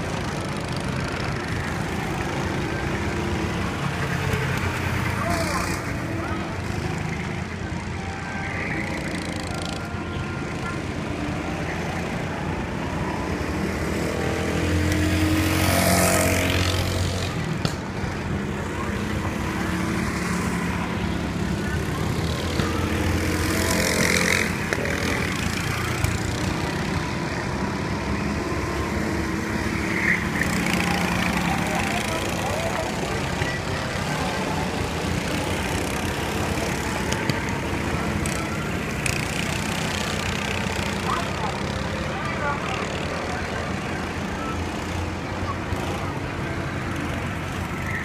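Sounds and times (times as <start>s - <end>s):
go-kart engines buzzing: 0.0s - 48.0s.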